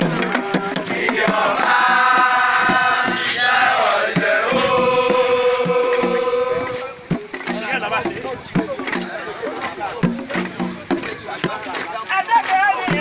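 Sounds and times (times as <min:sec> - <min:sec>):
hand drum strokes: 0:00.0 - 0:13.0
men chanting: 0:00.0 - 0:13.0.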